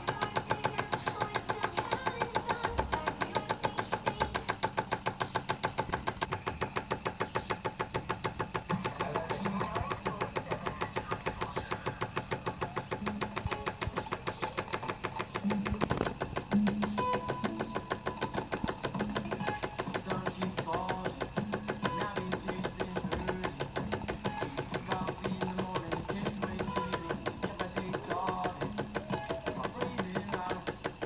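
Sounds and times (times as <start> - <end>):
model steam engine chuffing: 0.0 - 31.0.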